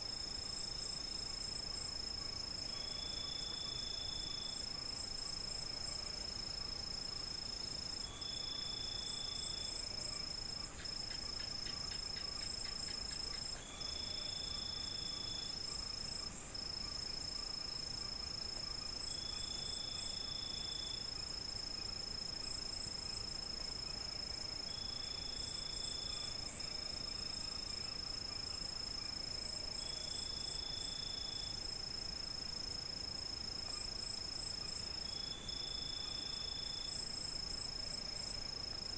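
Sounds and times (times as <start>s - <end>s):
night insects trilling chorus: 0.0s - 38.9s
short lower insect trill: 0.0s - 38.9s.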